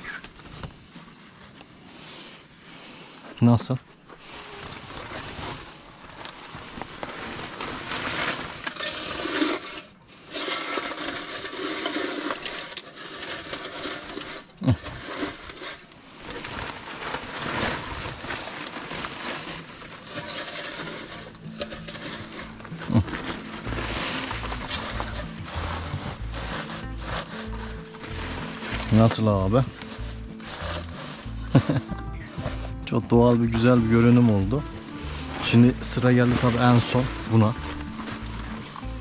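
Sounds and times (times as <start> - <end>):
dry hay rustling: 0.0 - 3.2, 3.9 - 39.0
plastic feed sack crinkling: 4.0 - 39.0.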